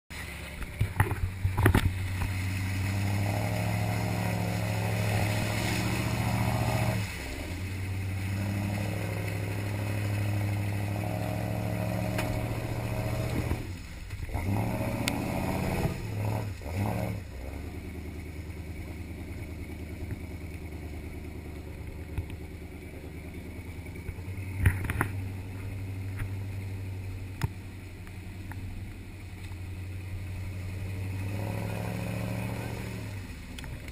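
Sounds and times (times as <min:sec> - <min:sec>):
off-road vehicle engine running: 0:00.1 - 0:33.9.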